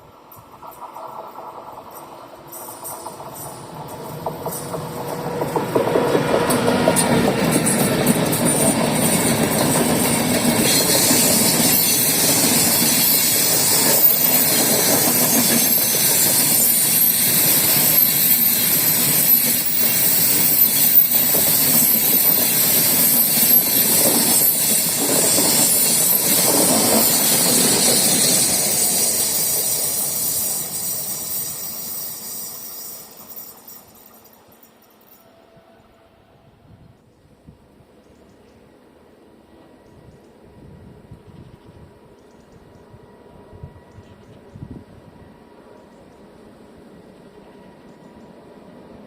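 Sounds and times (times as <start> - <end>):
train rolling on rails: 0.0 - 49.0.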